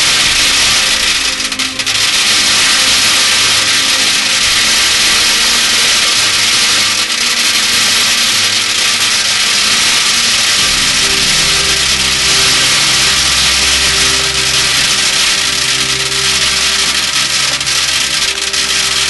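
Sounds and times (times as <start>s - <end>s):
metal bbs pouring into tin can: 0.0s - 19.0s.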